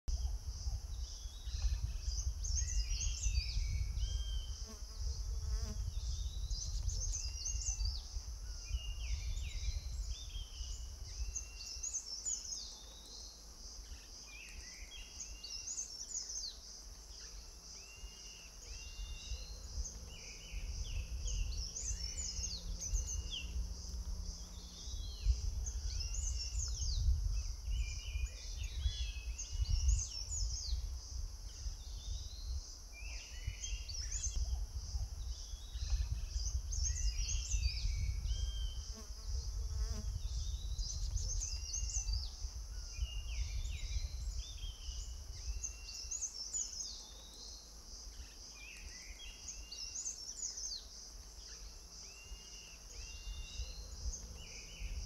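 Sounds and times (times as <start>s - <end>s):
insect drone: 0.1s - 55.0s
songbird chirping: 0.1s - 55.0s.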